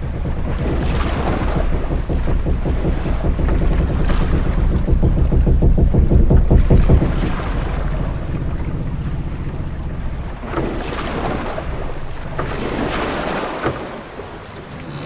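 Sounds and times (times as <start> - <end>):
low rumble of wind and water: 0.0 - 15.0
waves washing: 0.0 - 15.0.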